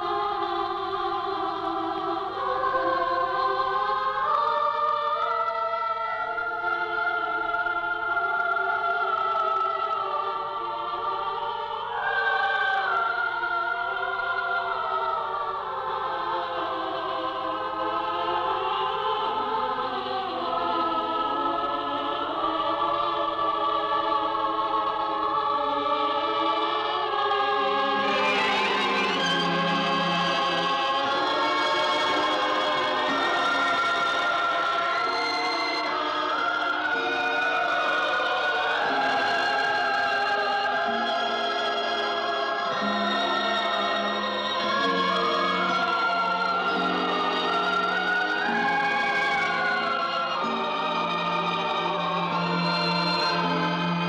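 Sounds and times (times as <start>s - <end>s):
choir singing held chords: 0.0s - 54.0s.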